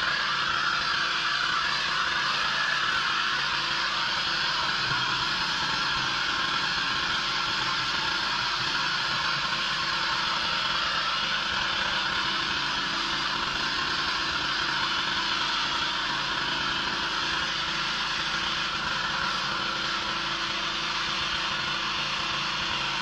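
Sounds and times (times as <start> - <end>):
high-pressure spray hissing: 0.0 - 23.0
pressure washer engine drone: 0.0 - 23.0.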